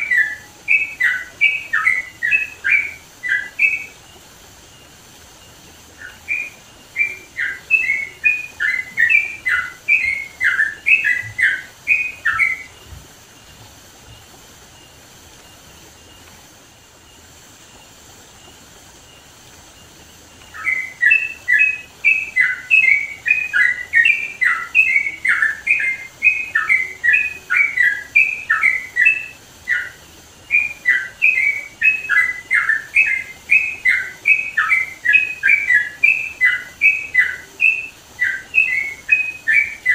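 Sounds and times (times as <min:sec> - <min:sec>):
bulbul singing whistled notes: 0:00.0 - 0:39.9.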